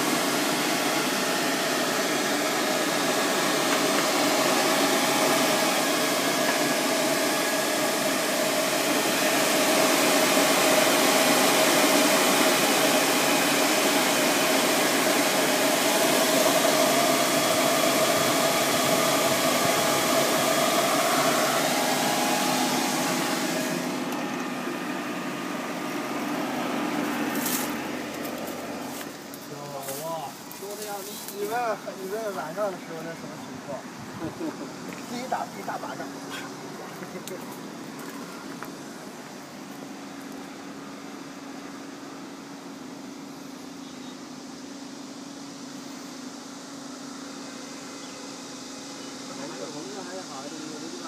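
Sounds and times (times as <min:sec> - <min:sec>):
cooling fans whirring: 0:00.0 - 0:51.0.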